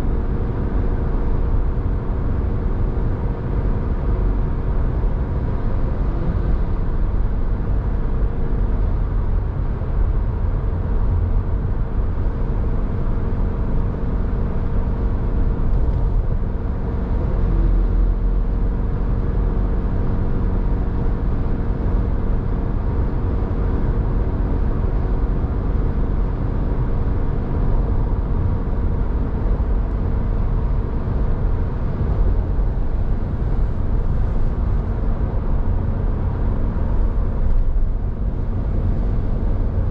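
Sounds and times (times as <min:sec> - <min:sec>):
engine and tyre rumble: 0:00.0 - 0:39.9.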